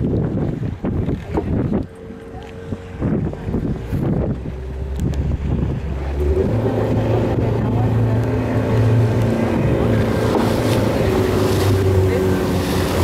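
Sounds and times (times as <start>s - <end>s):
boat engine humming: 0.0s - 13.0s
wind and water rumble: 0.0s - 13.0s.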